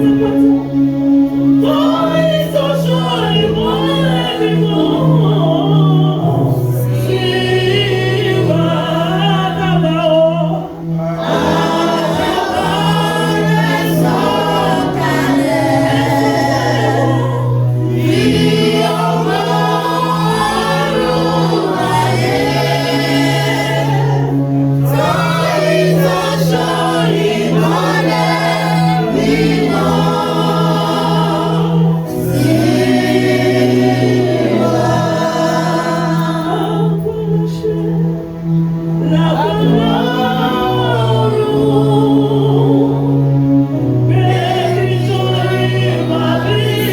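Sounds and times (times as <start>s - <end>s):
choir singing a hymn: 0.0s - 46.9s.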